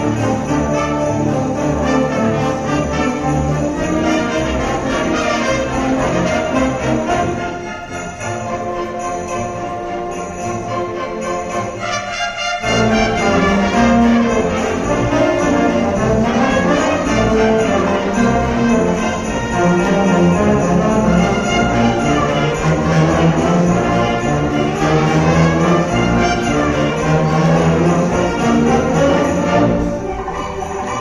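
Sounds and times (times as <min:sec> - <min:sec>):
brass playing: 0:00.0 - 0:31.0
orchestra playing christmas piece: 0:00.0 - 0:31.0.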